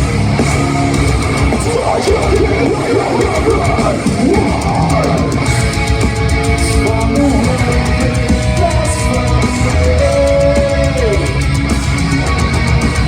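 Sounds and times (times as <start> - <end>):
distorted electric guitars: 0.0 - 13.0
fast dense drumming: 0.0 - 13.0.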